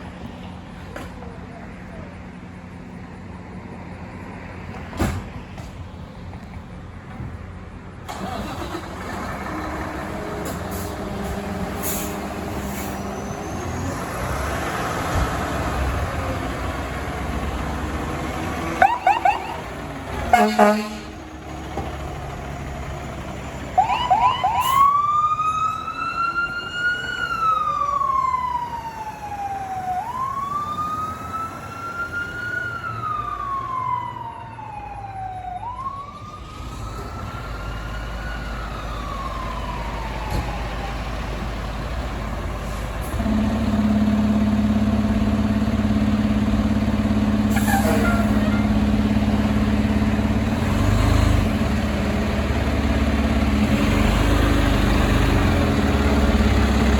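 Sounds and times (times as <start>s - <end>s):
heavy truck engine humming: 0.0s - 56.9s
fire truck siren wailing: 8.1s - 21.8s, 23.1s - 56.9s.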